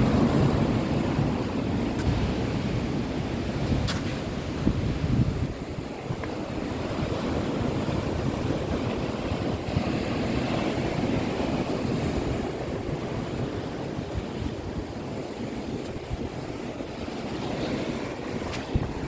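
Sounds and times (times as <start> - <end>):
sea surf washing: 0.0 - 19.0
wind buffeting microphone: 0.0 - 19.0.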